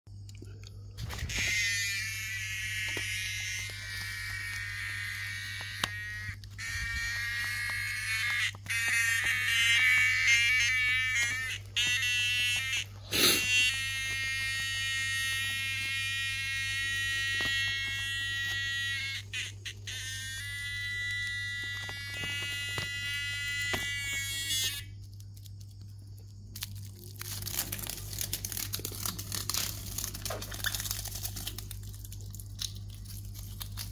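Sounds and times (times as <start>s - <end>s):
crinkling: 0.1s - 33.9s
cicada buzzing: 1.0s - 31.7s.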